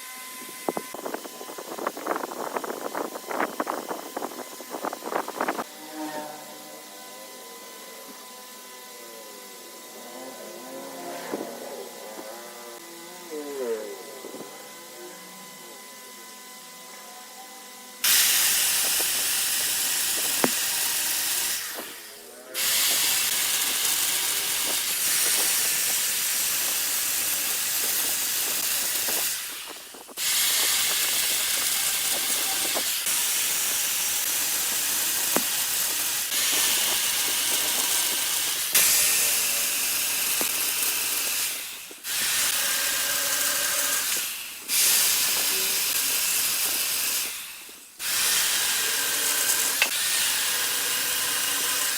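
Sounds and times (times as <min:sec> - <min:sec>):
lathe tool cutting wood: 0:00.0 - 0:17.0, 0:17.8 - 0:51.9.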